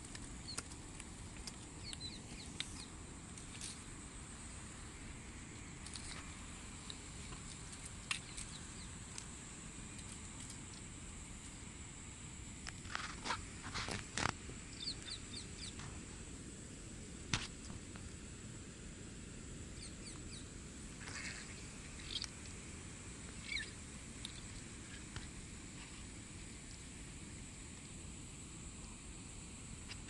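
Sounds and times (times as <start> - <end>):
steady high-pitched hum: 0.0 - 30.0.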